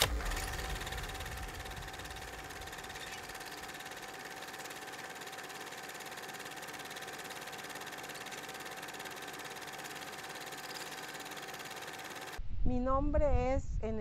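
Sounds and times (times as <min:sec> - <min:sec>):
mechanical hum: 0:00.0 - 0:13.2.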